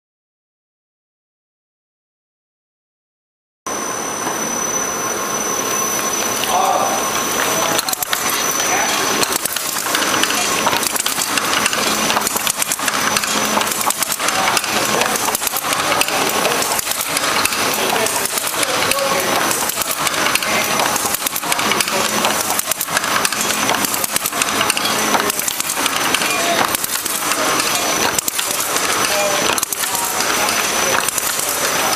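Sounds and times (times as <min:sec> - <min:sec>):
low machine hum: 0:03.7 - 0:31.9
thin machine whine: 0:03.7 - 0:31.9
machine clattering: 0:06.1 - 0:31.9.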